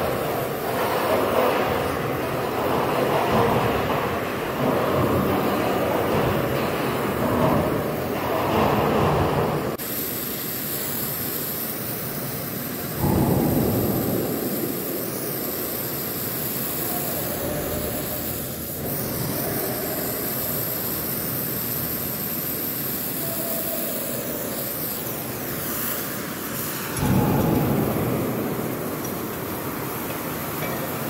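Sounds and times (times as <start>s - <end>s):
torch flame hissing: 0.0s - 31.0s.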